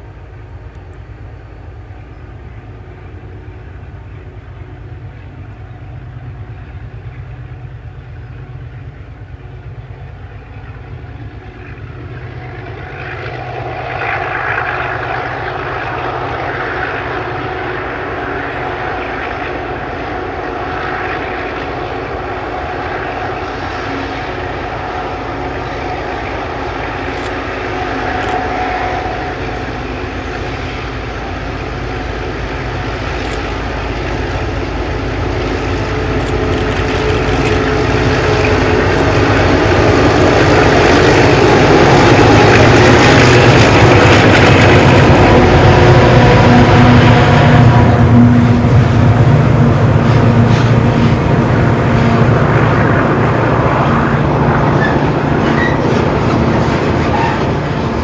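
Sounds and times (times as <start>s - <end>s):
diesel locomotive engines drone: 0.0s - 58.0s.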